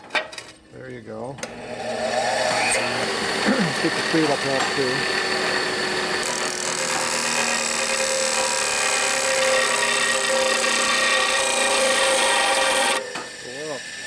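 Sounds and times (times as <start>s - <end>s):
power tool grinding steel: 1.4s - 14.0s.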